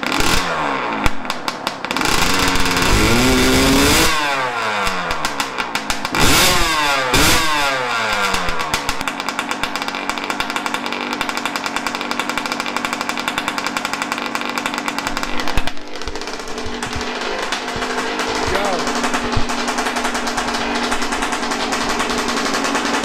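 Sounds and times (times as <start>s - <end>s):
dirt bike engine revving and idling: 0.0s - 23.0s.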